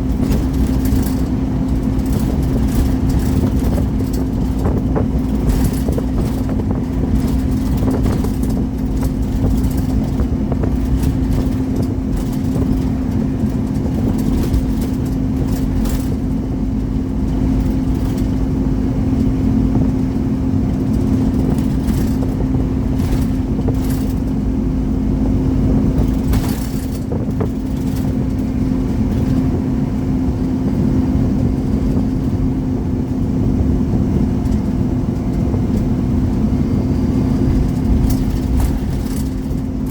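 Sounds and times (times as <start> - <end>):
short rattles: 0.0 - 32.4, 34.4 - 39.9
bus engine drone: 0.0 - 39.9
road rumble: 0.0 - 39.9.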